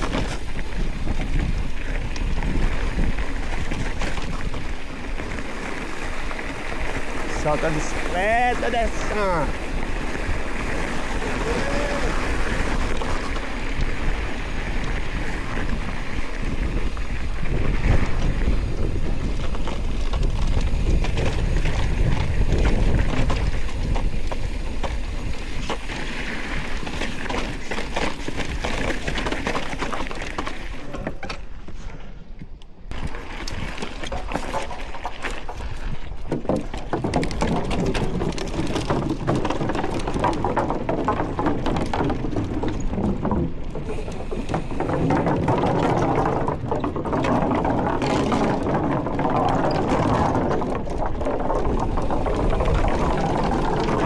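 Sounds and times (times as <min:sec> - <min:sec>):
wind buffeting microphone: 0:00.0 - 0:30.8, 0:32.9 - 0:54.0
bike rattling over bumps: 0:00.0 - 0:32.0, 0:32.9 - 0:54.0.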